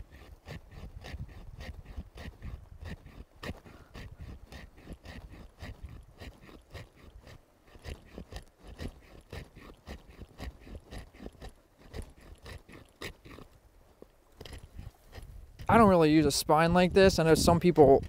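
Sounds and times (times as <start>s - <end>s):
knife spine scraping a stick: 0.0s - 13.5s, 14.4s - 15.9s.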